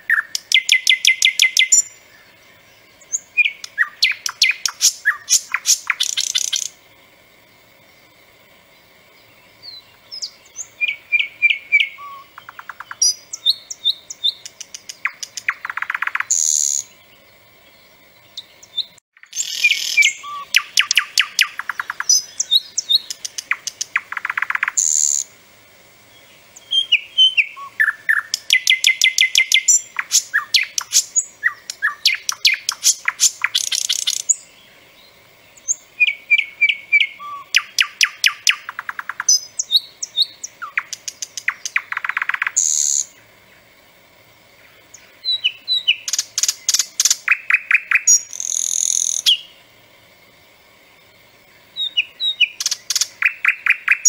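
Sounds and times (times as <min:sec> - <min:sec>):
nightingale singing: 0:00.0 - 0:25.4, 0:26.0 - 0:50.3, 0:51.0 - 0:54.0.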